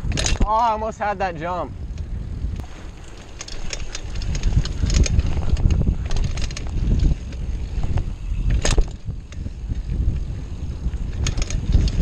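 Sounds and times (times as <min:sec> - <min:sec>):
bike clicks and rattles: 0:00.0 - 0:12.0
mountain bike on dirt trail: 0:00.0 - 0:12.0
wind rumbling on microphone: 0:00.0 - 0:12.0.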